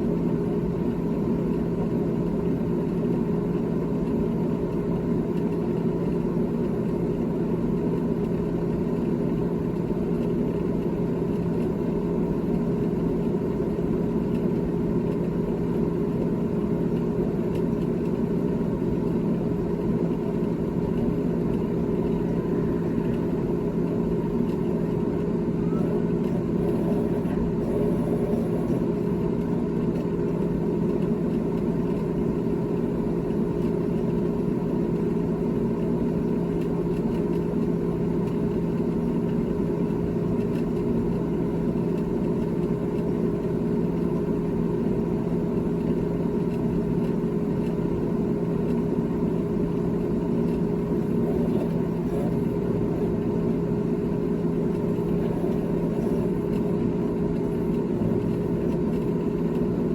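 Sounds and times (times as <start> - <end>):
refrigerator humming: 11.8 - 59.9.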